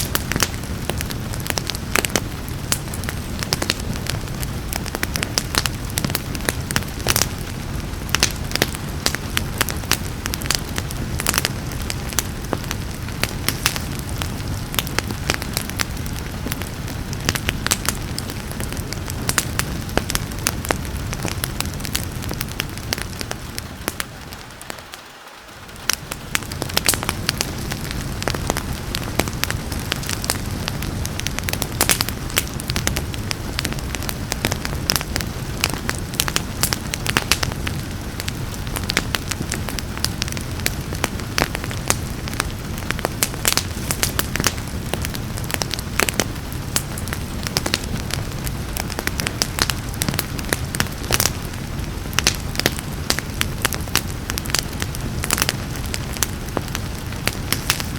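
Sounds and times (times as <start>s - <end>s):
rain hiss: 0.0s - 57.9s
wood fire crackling: 0.0s - 57.9s.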